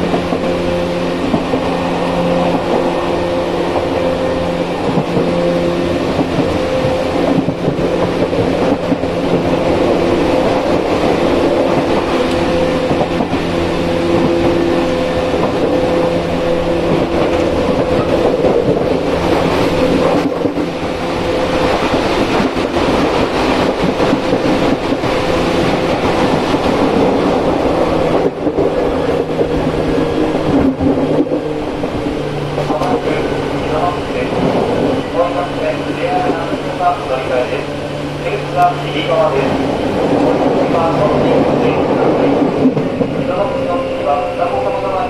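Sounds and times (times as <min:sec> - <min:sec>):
train wheel and rail noise: 0:00.0 - 0:45.0.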